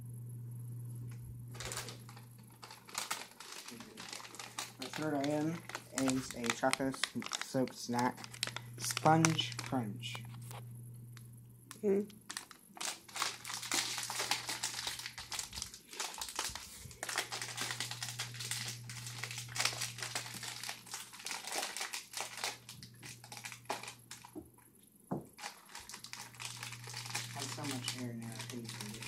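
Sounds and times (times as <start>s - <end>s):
foil snack bag crinkling: 1.5s - 10.6s, 11.7s - 24.4s, 25.3s - 29.0s.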